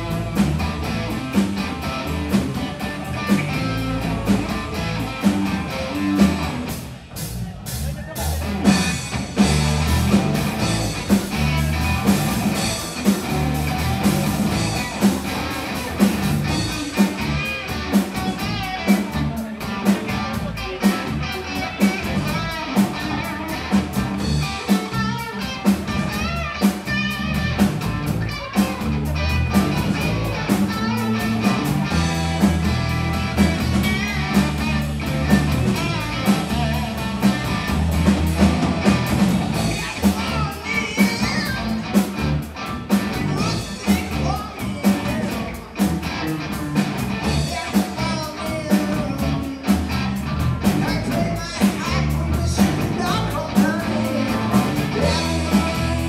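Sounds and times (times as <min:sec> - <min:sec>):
distorted electric guitars: 0:00.0 - 0:56.0
drum kit steady beat: 0:00.0 - 0:56.0.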